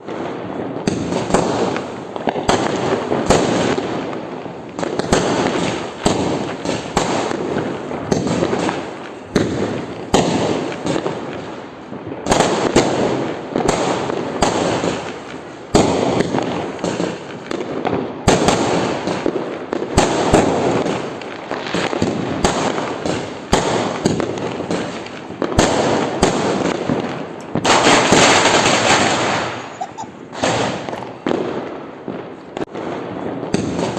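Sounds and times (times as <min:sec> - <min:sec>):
firecracker bangs: 0:00.0 - 0:11.5, 0:12.2 - 0:33.9
fireworks crackling: 0:00.0 - 0:33.9.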